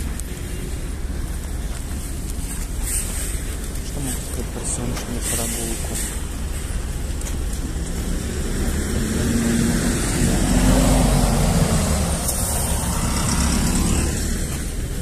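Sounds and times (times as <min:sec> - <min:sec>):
low traffic rumble: 0:00.0 - 0:15.0
vehicle engine: 0:00.0 - 0:15.0.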